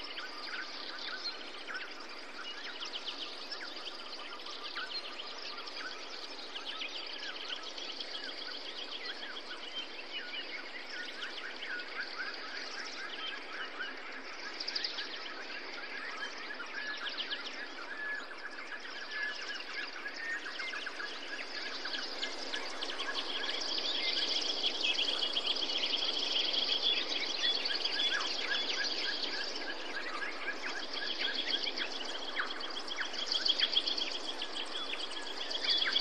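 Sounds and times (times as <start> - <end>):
birds chirping and trilling: 0.0 - 36.0
steady background hiss: 0.0 - 36.0.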